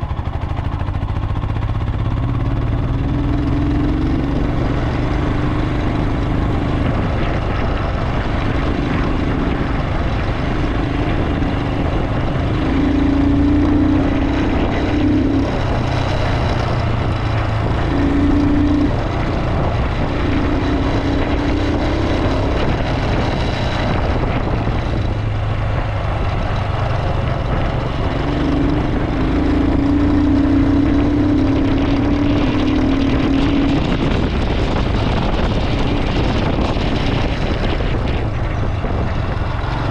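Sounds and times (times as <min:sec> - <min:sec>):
motorcycle engine under load: 0:00.0 - 0:39.9.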